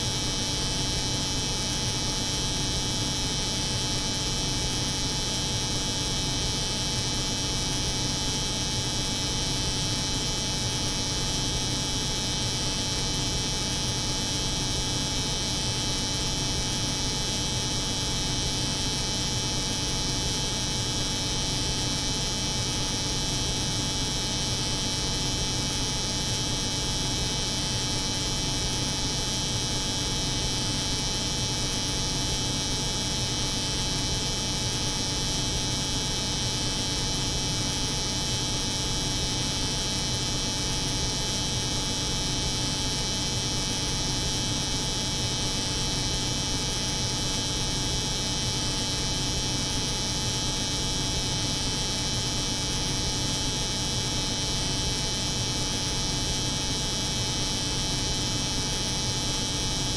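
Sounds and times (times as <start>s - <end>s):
room drone: 0.0s - 59.9s.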